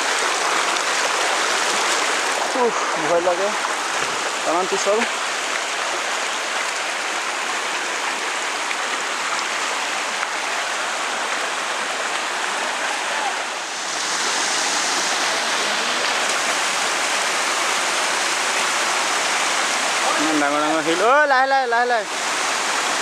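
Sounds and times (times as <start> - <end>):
rushing rocky stream: 0.0 - 23.0.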